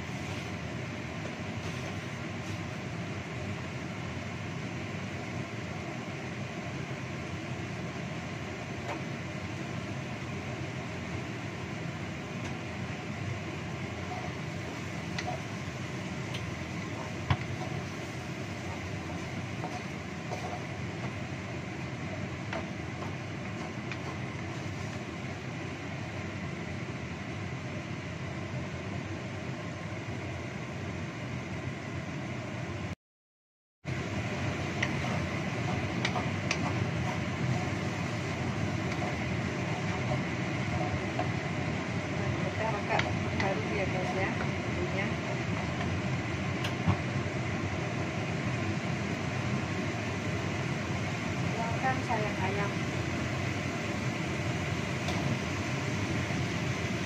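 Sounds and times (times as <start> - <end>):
sauce boiling in a wok: 0.0 - 32.9, 33.9 - 57.0.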